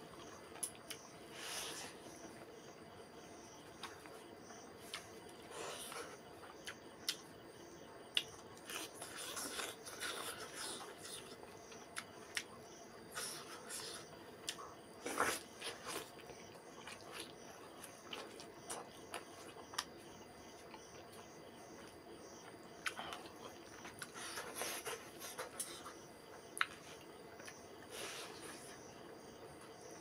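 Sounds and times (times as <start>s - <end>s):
man chewing food: 0.0s - 2.5s, 3.6s - 7.3s, 8.1s - 30.0s.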